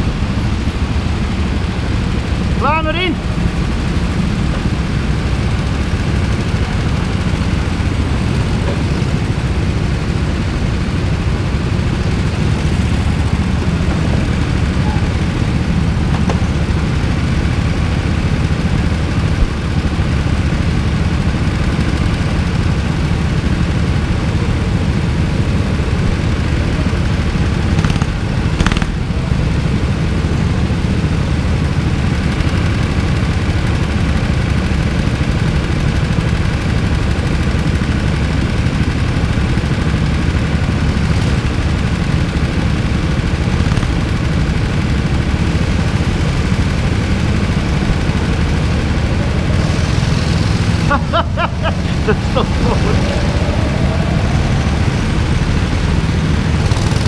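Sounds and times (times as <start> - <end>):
go-kart engines idling: 0.0 - 57.0.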